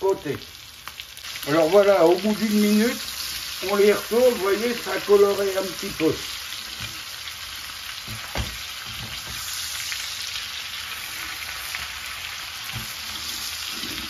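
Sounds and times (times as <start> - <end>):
liver sizzling in frying pan: 0.0 - 14.0.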